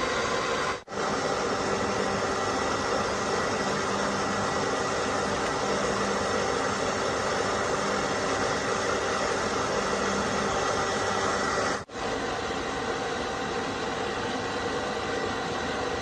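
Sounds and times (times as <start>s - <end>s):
hissing machine noise: 0.0s - 16.0s.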